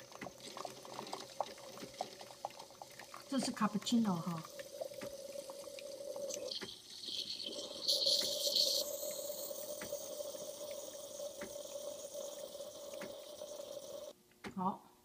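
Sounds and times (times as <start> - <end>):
coffee machine pump humming: 0.0 - 14.1
hot liquid hissing and trickling: 0.0 - 14.1.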